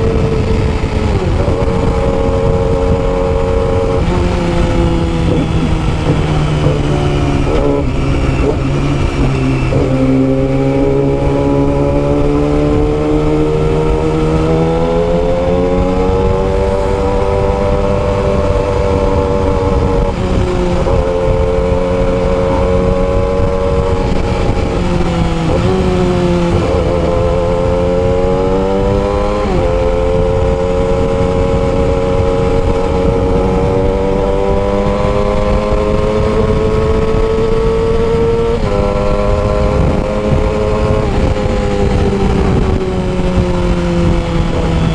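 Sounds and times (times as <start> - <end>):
sport bike engine: 0.0 - 44.9
wind noise on microphone: 0.0 - 44.9.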